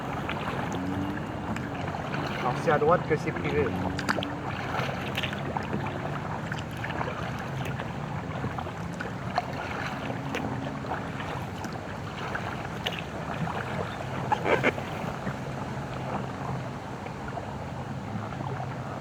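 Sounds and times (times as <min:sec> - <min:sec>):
paddle splashing water: 0:00.0 - 0:19.0
steady wash of water: 0:00.0 - 0:19.0.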